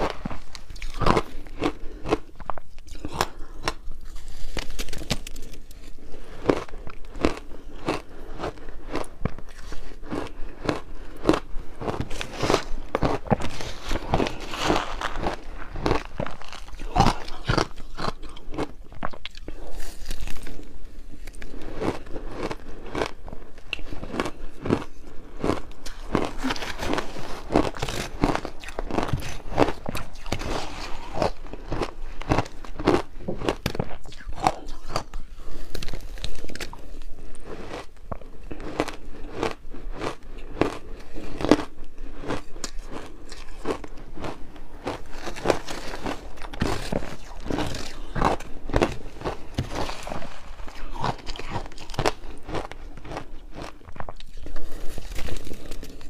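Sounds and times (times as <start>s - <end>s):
ice being crunched and chewed: 0.0s - 56.0s.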